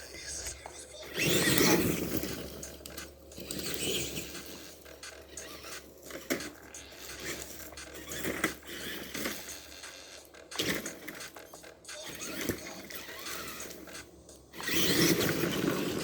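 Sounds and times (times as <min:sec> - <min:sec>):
small electric motor whirring: 0:00.0 - 0:16.0
tyres scrabbling over dirt and rocks: 0:00.0 - 0:16.0.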